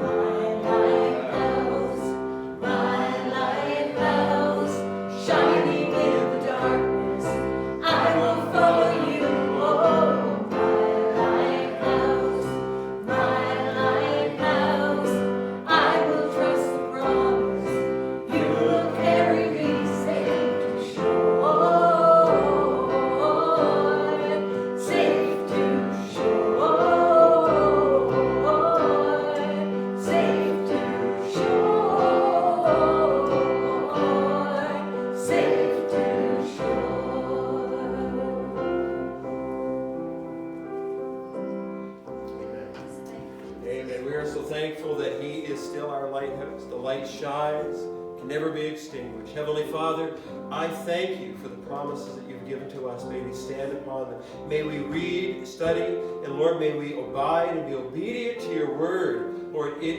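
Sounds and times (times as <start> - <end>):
group singing a hymn: 0.0 - 40.6, 41.8 - 59.9
instrumental accompaniment: 0.0 - 59.9.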